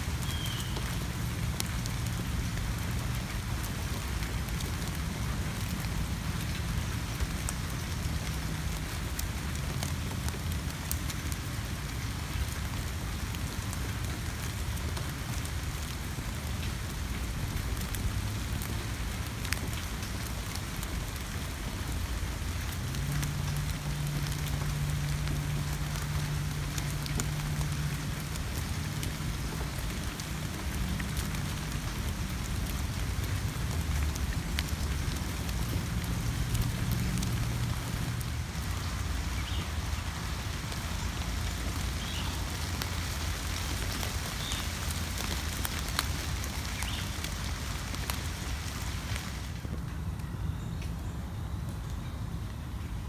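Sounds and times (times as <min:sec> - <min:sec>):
rain falling on leaves: 0:00.0 - 0:53.0.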